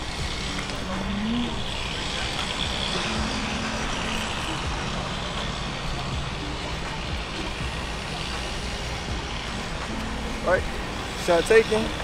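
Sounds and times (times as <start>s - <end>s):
motor vehicles passing: 0.0s - 12.0s.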